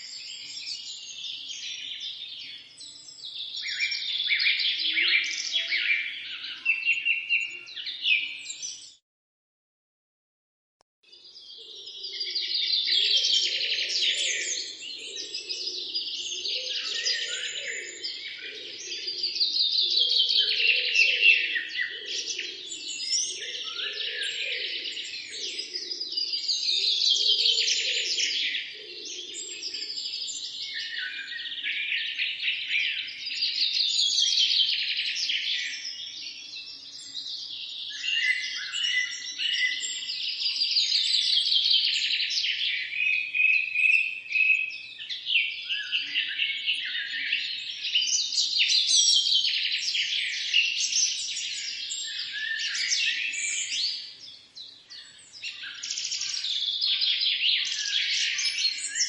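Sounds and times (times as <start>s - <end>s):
birds chirping and singing: 0.0s - 9.0s, 11.1s - 59.0s.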